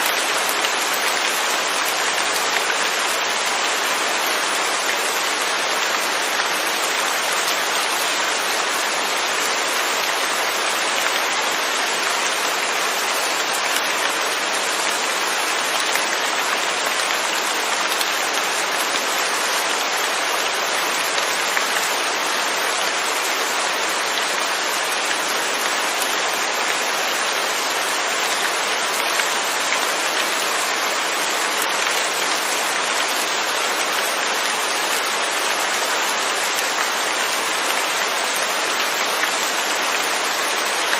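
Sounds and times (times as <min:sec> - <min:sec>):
steady rain on surfaces: 0:00.0 - 0:40.9.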